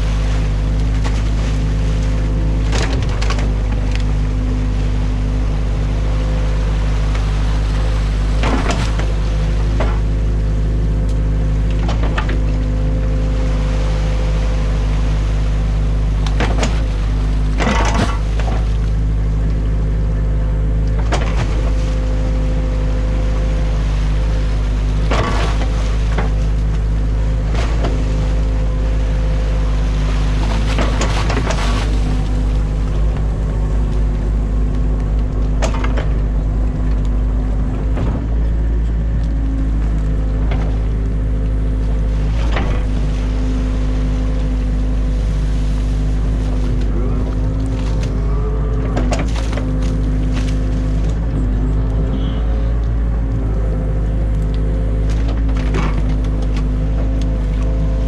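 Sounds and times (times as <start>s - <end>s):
excavator diesel engine running: 0.0s - 58.0s
hydraulic hum: 0.0s - 58.0s.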